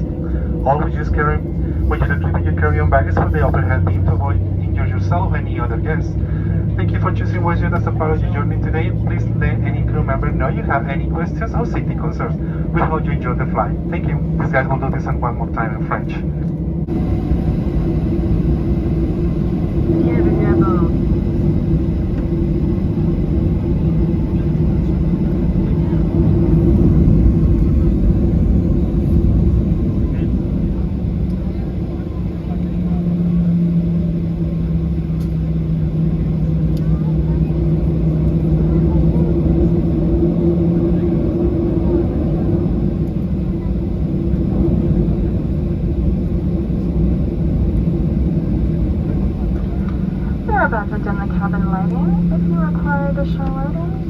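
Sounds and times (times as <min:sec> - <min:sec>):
airplane cabin rumble and hum: 0:00.0 - 0:54.0.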